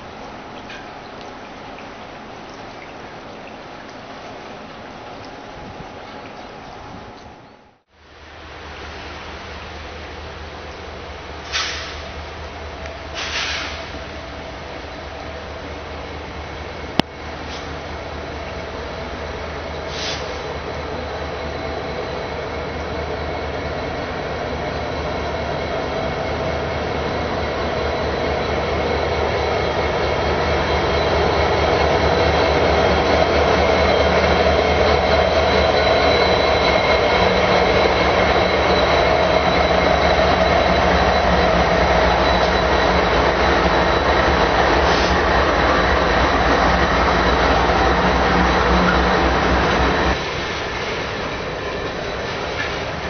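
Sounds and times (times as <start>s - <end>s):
diesel locomotives passing: 8.0s - 53.0s
train wheels rumbling on rail: 8.5s - 53.0s.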